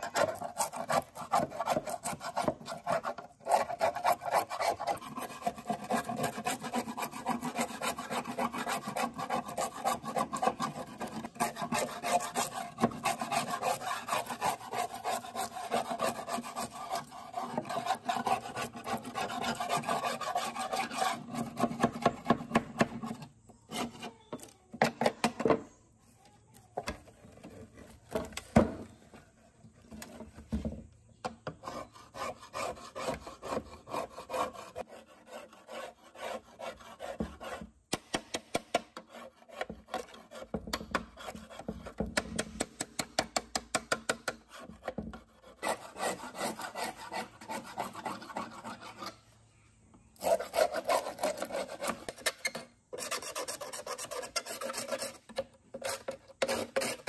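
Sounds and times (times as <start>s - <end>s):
scraper blade scraping rusted metal: 0.0s - 25.2s, 31.5s - 37.7s, 38.3s - 42.7s, 44.2s - 49.3s, 50.2s - 57.0s.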